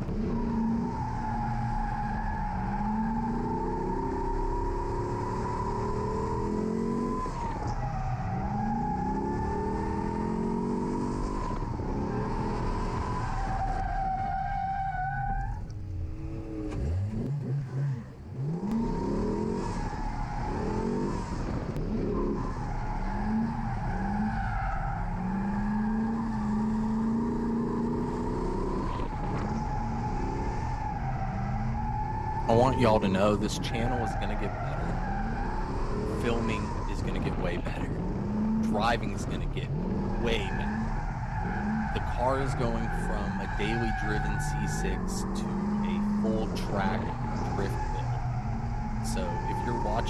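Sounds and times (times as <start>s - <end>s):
car engine revving: 0.0s - 50.0s
tires squealing: 0.0s - 50.0s.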